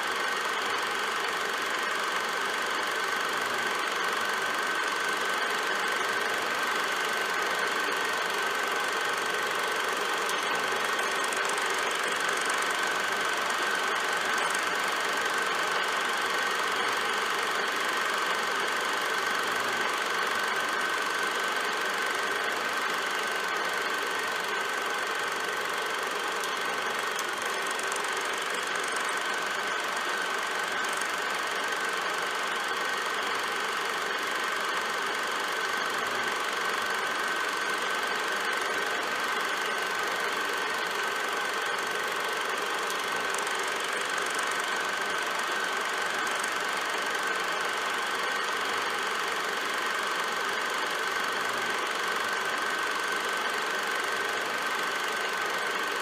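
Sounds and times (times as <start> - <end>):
film projector whirring and clatter: 0.0 - 56.0.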